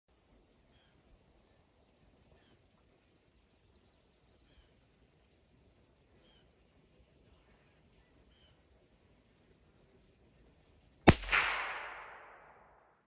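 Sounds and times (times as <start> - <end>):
faint insect chirring: 0.1 - 11.0.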